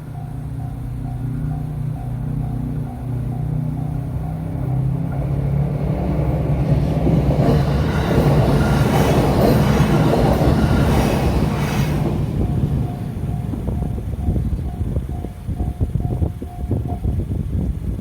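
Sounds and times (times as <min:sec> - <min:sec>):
level crossing warning bell: 0:00.0 - 0:17.7
train wheels on rails: 0:00.0 - 0:18.0.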